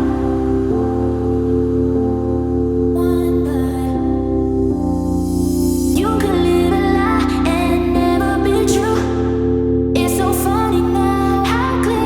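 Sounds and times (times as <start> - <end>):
calm sustained chords: 0.0 - 12.0.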